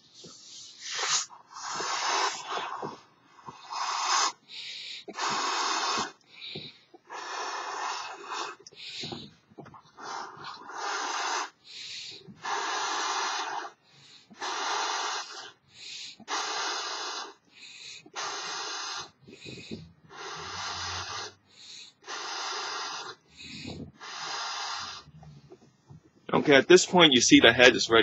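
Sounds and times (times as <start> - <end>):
man blowing into balloon: 0.0 - 11.6, 12.2 - 25.6.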